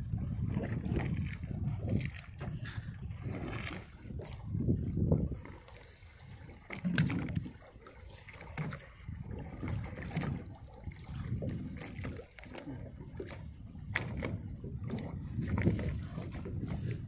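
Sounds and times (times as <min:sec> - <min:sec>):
water splashing against boat hull: 0:00.0 - 0:17.0.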